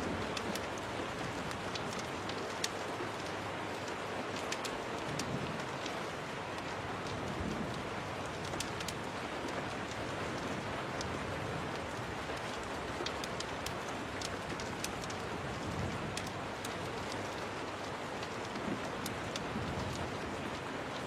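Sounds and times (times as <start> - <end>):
rain against a window: 0.0 - 21.0
wood fire crackling: 0.0 - 21.0.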